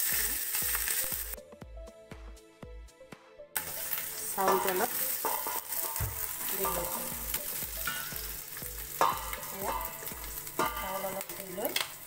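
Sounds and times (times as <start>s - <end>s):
rice sizzling in hot oil: 0.0s - 1.4s, 3.6s - 12.0s.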